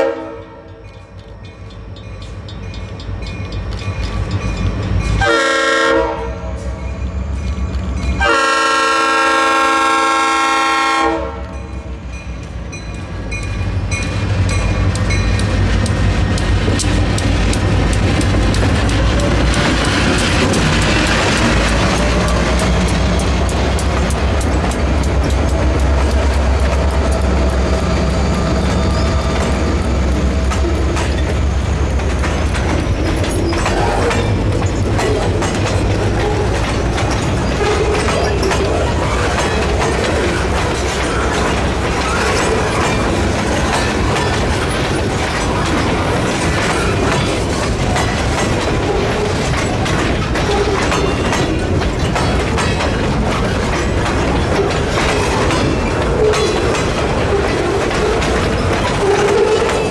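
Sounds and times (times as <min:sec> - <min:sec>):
locomotive engine rumble: 0:00.0 - 0:59.9
train wheels clacking over rail joints: 0:00.0 - 0:59.9.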